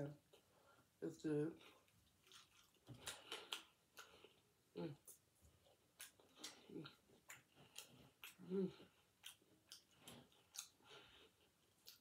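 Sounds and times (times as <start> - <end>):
close-up chewing with mouth clicks: 1.6 - 12.0.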